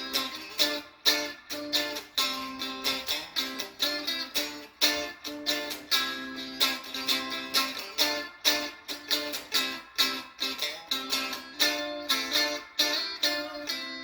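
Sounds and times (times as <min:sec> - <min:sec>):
clean electric guitar: 0:00.0 - 0:14.0.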